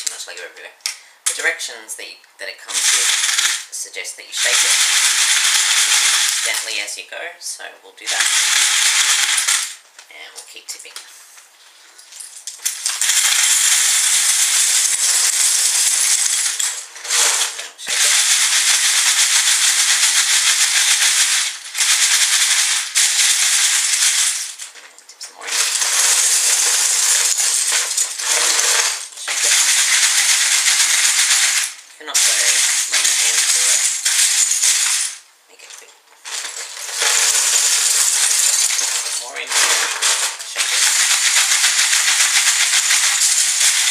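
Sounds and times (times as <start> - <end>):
plastic bricks rattling in a sorter: 2.7 - 3.7, 4.4 - 6.8, 8.0 - 9.8, 12.6 - 35.2, 36.2 - 43.9.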